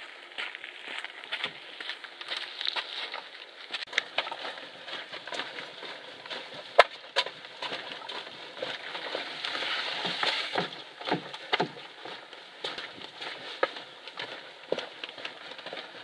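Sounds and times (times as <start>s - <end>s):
footsteps on leafy dirt trail: 0.0s - 16.0s.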